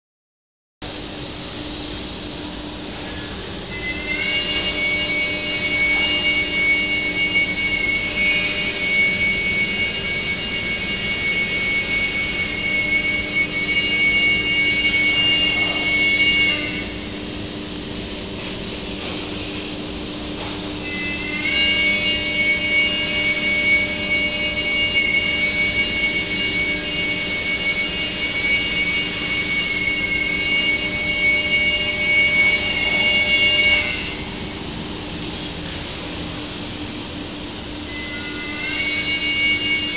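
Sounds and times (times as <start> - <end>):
machine noise: 0.8 - 39.9
spindle high whine: 0.8 - 39.9.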